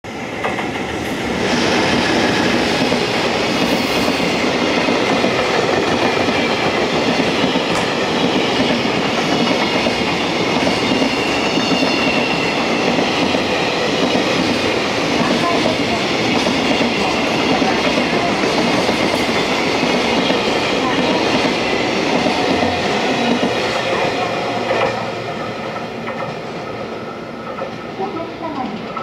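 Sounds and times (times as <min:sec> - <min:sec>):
freight train passing: 0:00.0 - 0:29.0
train wheels running on rails: 0:00.1 - 0:29.0.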